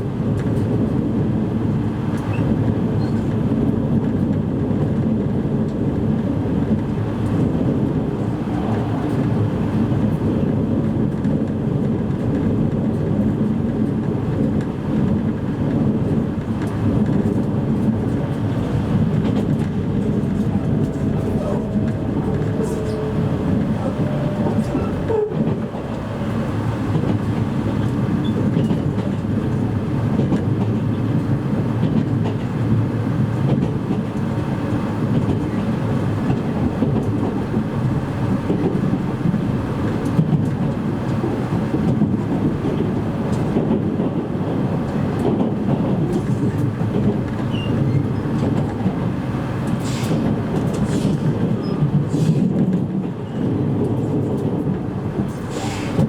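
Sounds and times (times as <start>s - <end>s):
train running rumble: 0.0s - 56.0s
wheels clicking over rail joints: 6.6s - 56.0s.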